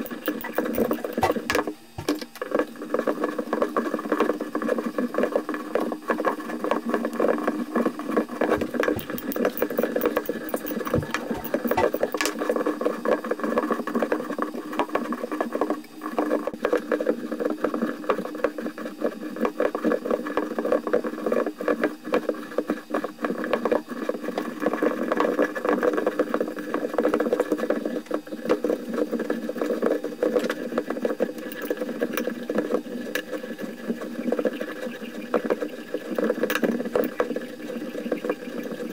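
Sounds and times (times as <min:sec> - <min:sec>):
mechanical running noise with crackle: 0:00.0 - 0:38.9.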